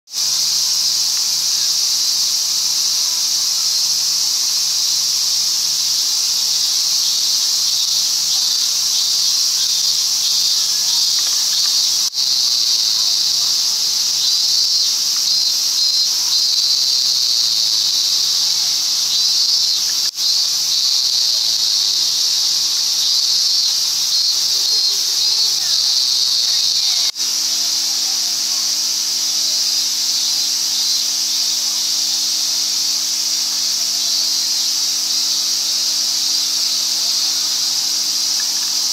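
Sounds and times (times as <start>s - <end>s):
cicadas shrilling: 0.1s - 38.9s
pulsing insect call: 0.2s - 38.9s.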